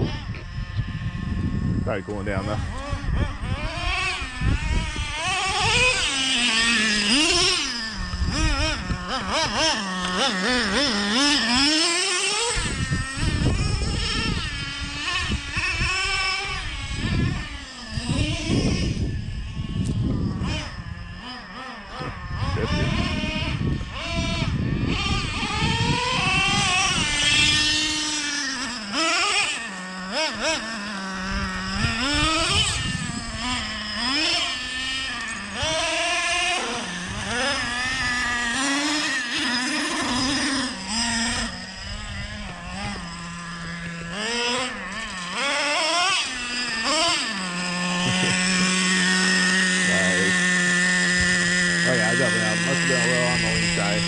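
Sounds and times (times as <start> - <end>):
small truck engine revving: 1.2 - 54.0.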